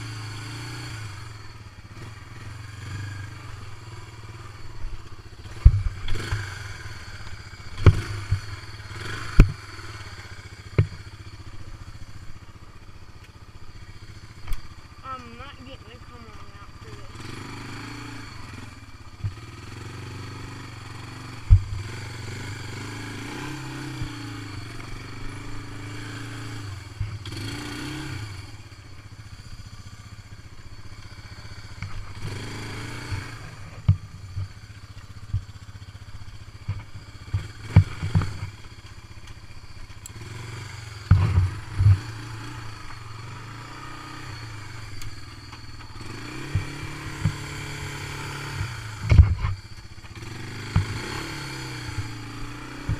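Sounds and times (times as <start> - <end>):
atv engine running: 0.0 - 52.9
knocks and clatter over ruts: 0.0 - 52.9.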